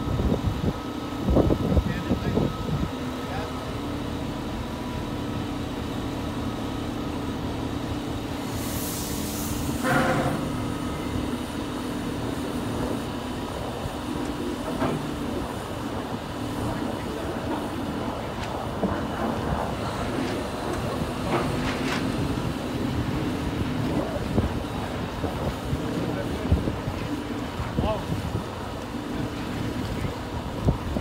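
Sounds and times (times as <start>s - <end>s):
crane engine droning: 0.0s - 31.0s.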